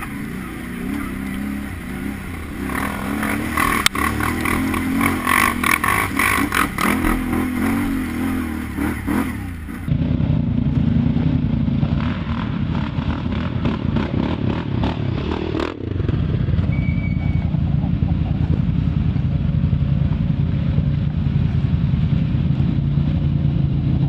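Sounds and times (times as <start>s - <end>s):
atv engine revving: 0.0s - 24.0s
low atv engine drone: 0.0s - 24.0s.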